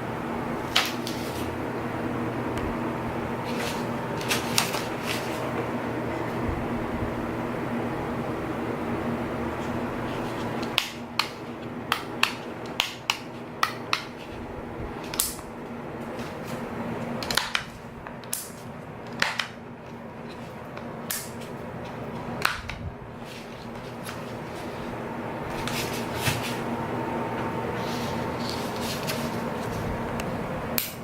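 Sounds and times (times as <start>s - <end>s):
low motor hum: 0.0s - 18.2s, 21.5s - 30.8s.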